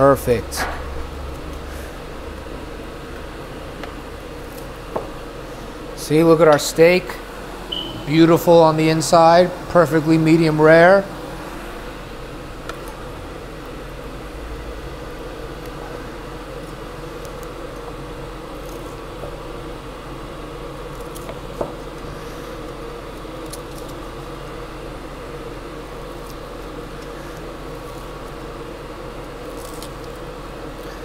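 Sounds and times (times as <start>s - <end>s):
appliance fan hum and hiss: 0.0s - 31.0s.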